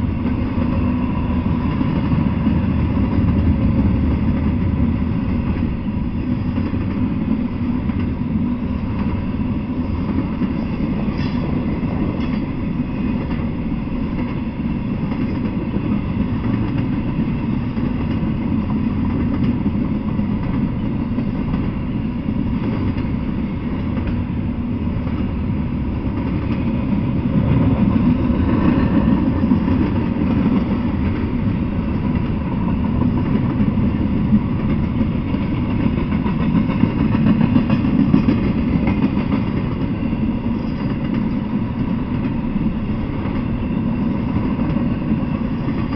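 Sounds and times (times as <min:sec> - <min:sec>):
freight train wheels rumbling: 0:00.0 - 0:45.9.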